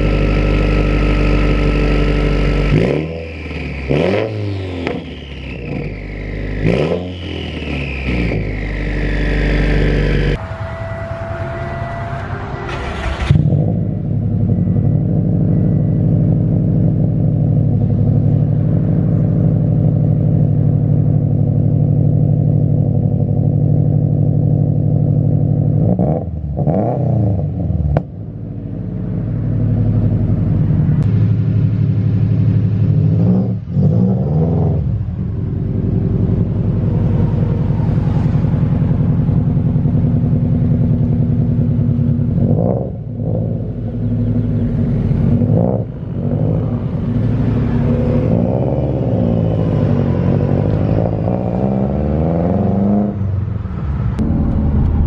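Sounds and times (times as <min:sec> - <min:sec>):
car engine revving while driving: 0:00.0 - 0:10.4, 0:13.2 - 0:31.4, 0:32.3 - 0:41.4, 0:42.0 - 0:55.0.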